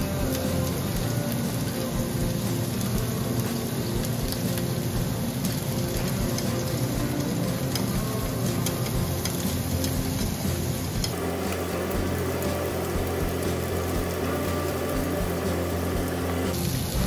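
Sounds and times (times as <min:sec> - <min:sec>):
onions sizzling in a frying pan: 0:00.0 - 0:17.0.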